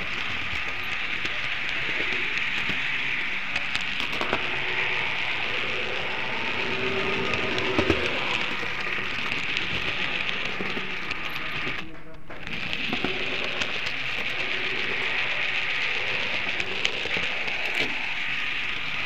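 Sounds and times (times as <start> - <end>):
model train wheels rattling: 0.0 - 19.0.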